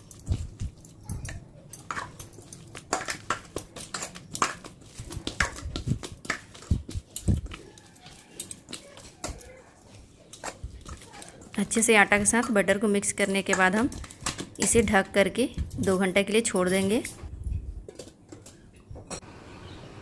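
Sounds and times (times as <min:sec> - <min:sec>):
dough squelching being kneaded: 0:00.0 - 0:17.1.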